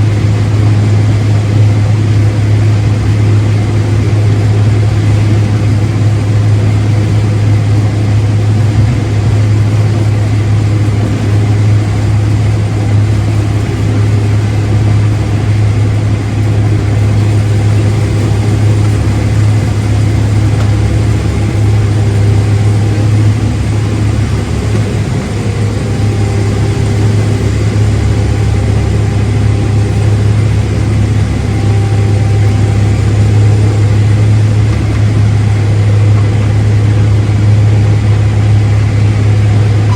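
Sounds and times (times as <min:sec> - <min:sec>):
farm machine engine humming: 0:00.0 - 0:39.9.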